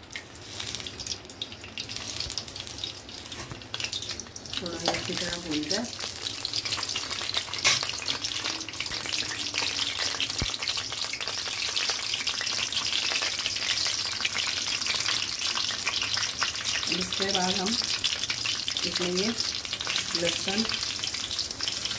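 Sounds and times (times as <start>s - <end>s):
seeds sizzling in hot oil: 0.0s - 21.9s.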